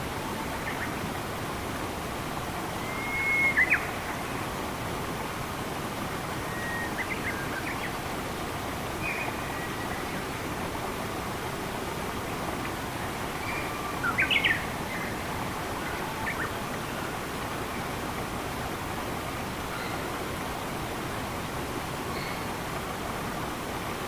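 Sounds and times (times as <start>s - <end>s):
flowing stream water: 0.0s - 24.0s.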